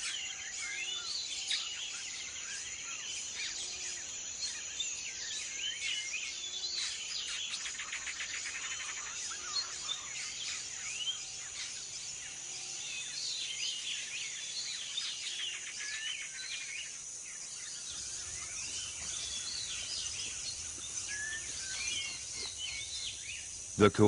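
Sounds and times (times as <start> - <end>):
insect drone: 0.0 - 24.0
birds chirping and whistling: 4.5 - 24.0.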